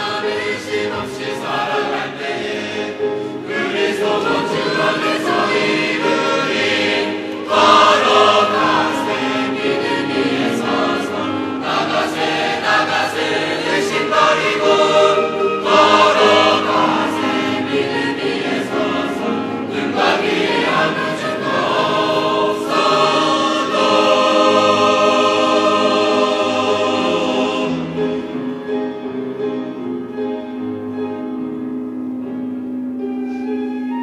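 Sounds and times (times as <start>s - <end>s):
choir singing in harmony: 0.0s - 34.0s.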